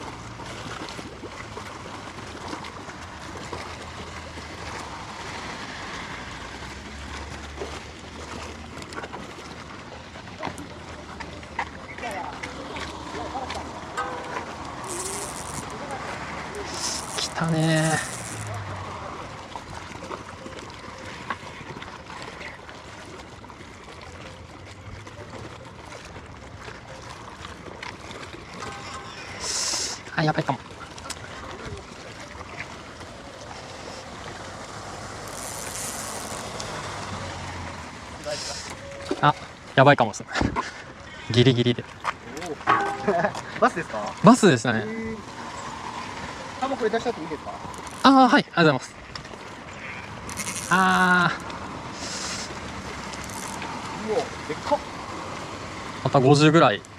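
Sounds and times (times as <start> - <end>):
water lapping around a boat: 0.0 - 56.9
wind: 0.0 - 56.9.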